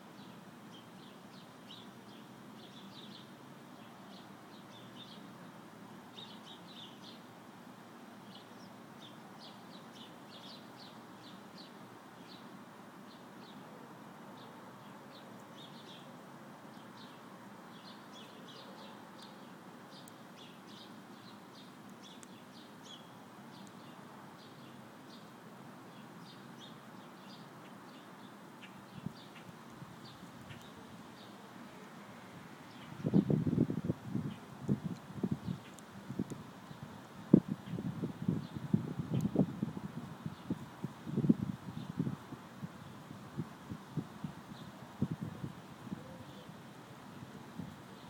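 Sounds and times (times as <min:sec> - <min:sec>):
small songbirds chirping: 0:00.0 - 0:07.4, 0:08.1 - 0:48.0
faint steady background noise: 0:00.0 - 0:48.0.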